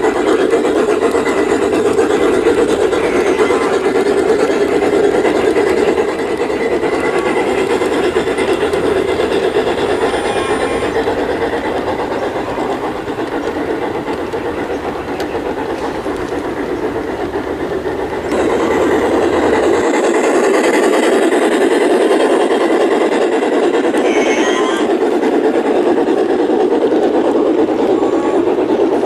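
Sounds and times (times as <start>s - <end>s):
model train wheels rolling on rails: 0.0s - 29.0s.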